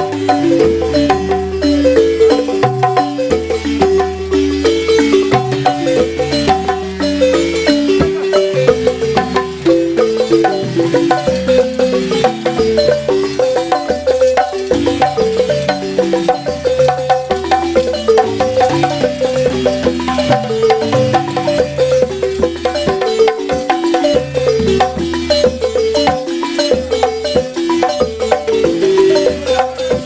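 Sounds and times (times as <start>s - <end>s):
wooden xylophone fast melodic runs: 0.0s - 30.0s.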